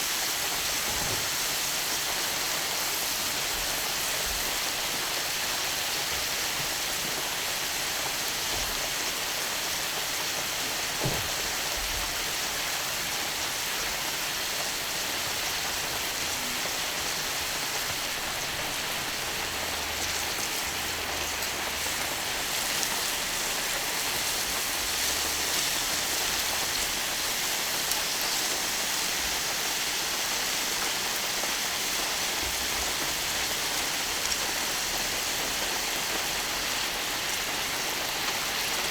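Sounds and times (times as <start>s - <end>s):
meat sizzling on a griddle: 0.0s - 38.9s.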